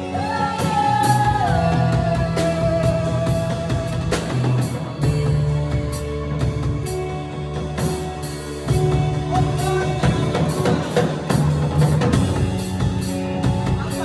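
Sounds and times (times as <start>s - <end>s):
band music: 0.0s - 14.0s
drums keeping a steady beat: 0.0s - 14.0s.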